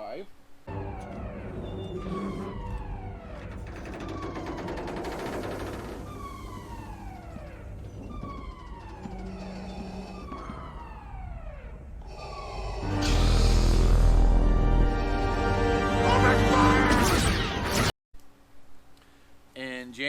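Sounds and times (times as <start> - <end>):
siren-like falling wail: 0.7 - 17.6.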